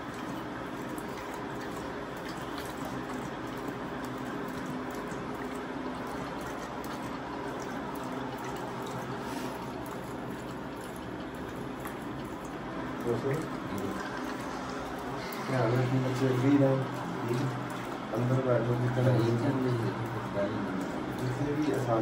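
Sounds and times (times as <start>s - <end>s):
steady background hum: 0.0s - 22.0s
tiger lapping water: 0.0s - 22.0s
water dripping: 0.0s - 22.0s.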